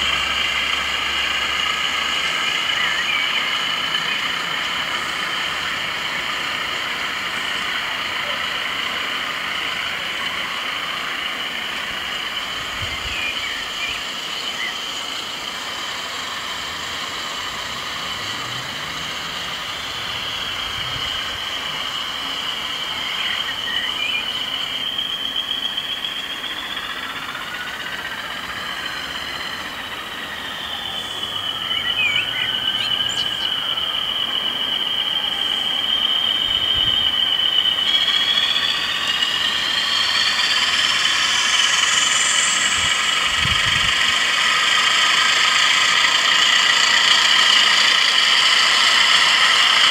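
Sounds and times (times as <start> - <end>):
model train squealing on track: 0.0 - 49.9
rising high tones: 0.0 - 49.9.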